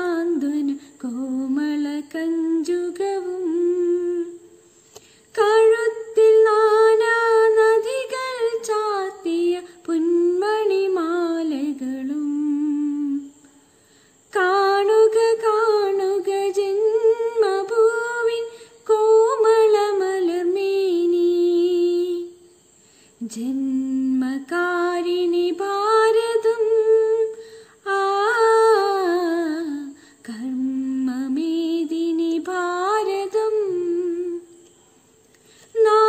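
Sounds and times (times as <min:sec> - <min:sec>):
woman singing unaccompanied: 0:00.0 - 0:34.9, 0:35.6 - 0:36.0.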